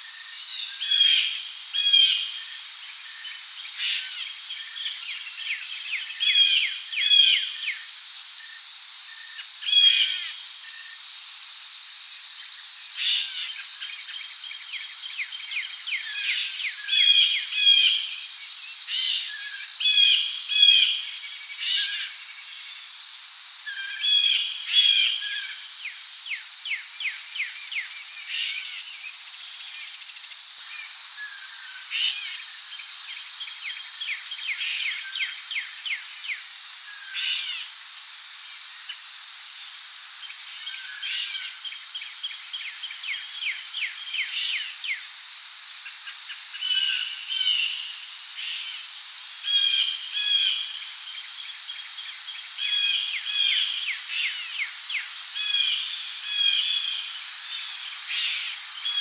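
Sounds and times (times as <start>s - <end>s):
crickets and insects drone: 0.0s - 59.0s.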